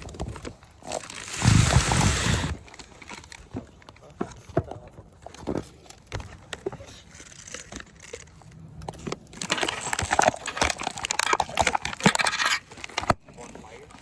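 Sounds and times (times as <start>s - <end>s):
bonfire crackling and popping: 0.0s - 4.1s, 4.8s - 14.0s.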